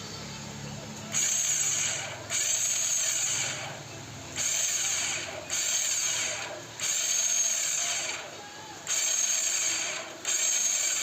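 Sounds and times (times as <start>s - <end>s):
starter motor whining: 1.1s - 11.0s.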